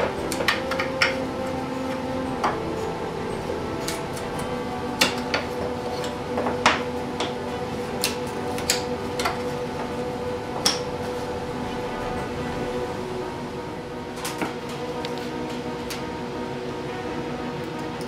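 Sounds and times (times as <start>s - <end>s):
steady background drone: 0.0s - 18.0s.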